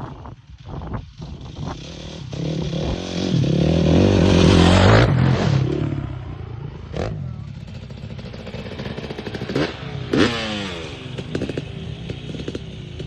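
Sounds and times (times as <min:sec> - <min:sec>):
dirt bike engine revving: 0:01.2 - 0:13.0.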